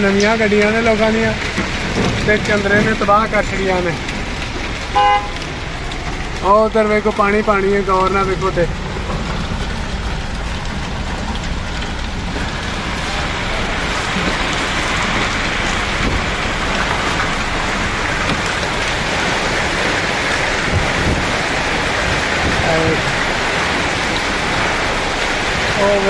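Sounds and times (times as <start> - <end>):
heavy rain and hail: 0.0 - 26.0.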